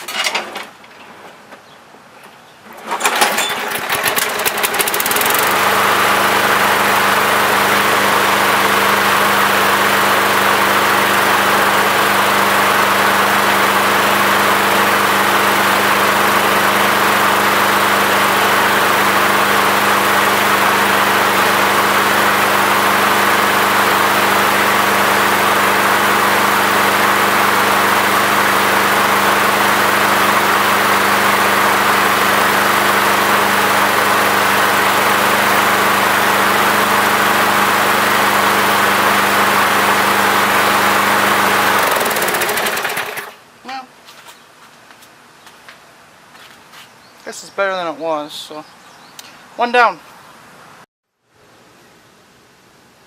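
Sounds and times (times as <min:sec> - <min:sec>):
lawn mower engine starting and running: 0:00.0 - 0:01.6, 0:02.6 - 0:44.4.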